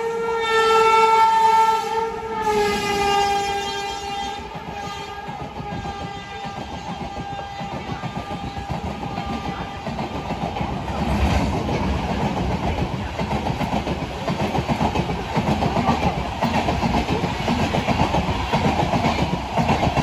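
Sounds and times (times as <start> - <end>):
heavy train rumble: 0.0 - 20.0
train wheels clattering: 2.8 - 20.0.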